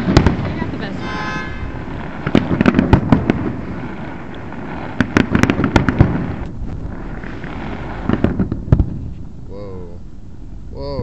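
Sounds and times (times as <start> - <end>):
fireworks cracks and bangs: 0.0 - 9.4
continuous rumble: 0.0 - 11.0.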